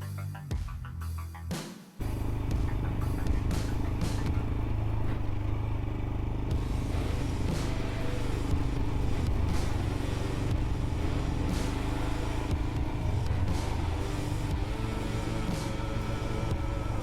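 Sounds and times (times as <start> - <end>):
motorcycle engine running: 2.0 - 17.0.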